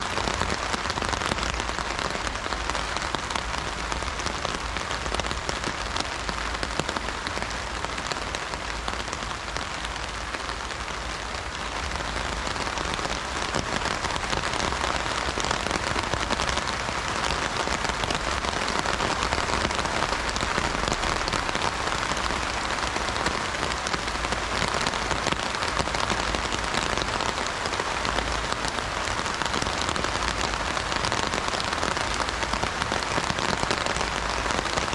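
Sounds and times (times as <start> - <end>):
heavy rain on umbrella: 0.0 - 34.9.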